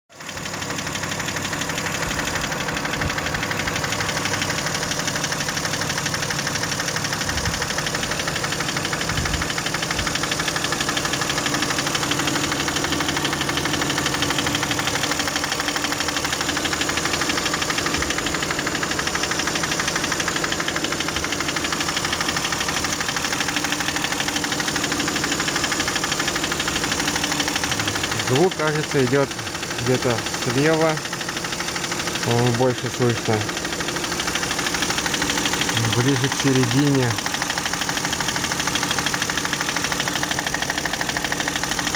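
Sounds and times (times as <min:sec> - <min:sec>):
engine running with rhythmic knock: 0:00.1 - 0:41.9.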